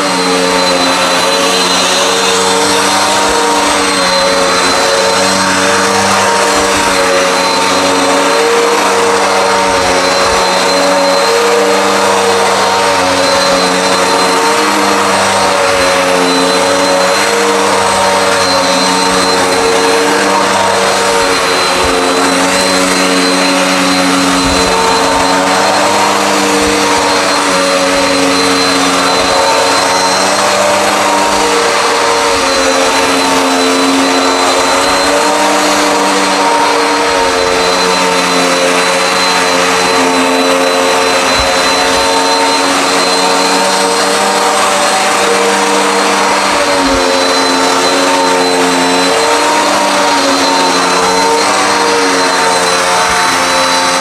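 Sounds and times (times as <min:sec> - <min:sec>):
upright vacuum cleaner on carpet: 0:00.0 - 0:54.0.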